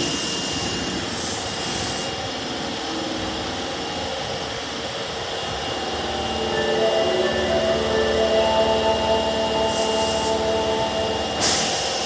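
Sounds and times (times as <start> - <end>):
electric train rushing roar: 0.0 - 12.0.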